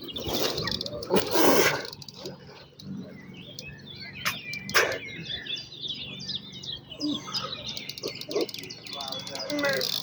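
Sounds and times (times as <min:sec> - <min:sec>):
songbirds chirping and trilling: 0:00.0 - 0:10.0.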